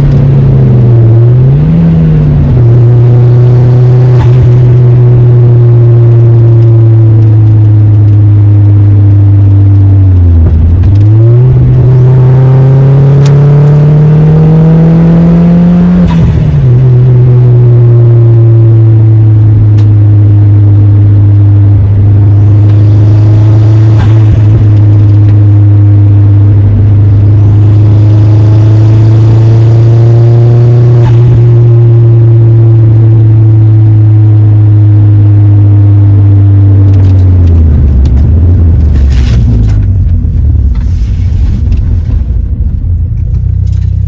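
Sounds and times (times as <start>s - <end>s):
car engine and exhaust droning: 0.0s - 44.0s.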